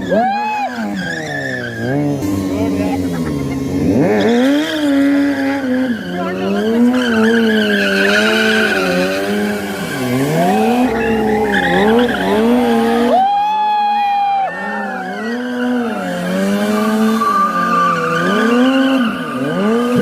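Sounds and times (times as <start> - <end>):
motorcycle engine revving: 0.0 - 13.3, 14.5 - 20.0.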